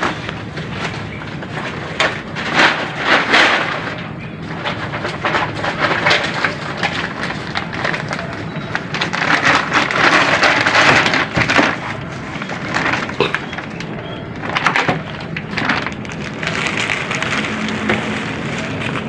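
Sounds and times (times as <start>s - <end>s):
plastic sack crinkling: 0.0s - 19.0s.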